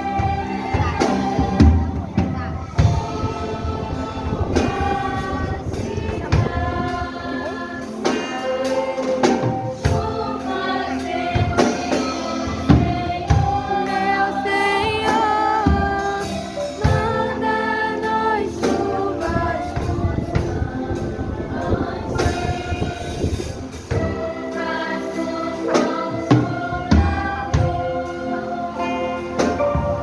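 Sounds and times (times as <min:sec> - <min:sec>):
gospel hymn singing: 0:00.0 - 0:30.0
instrumental accompaniment: 0:00.0 - 0:30.0
percussion: 0:00.0 - 0:30.0.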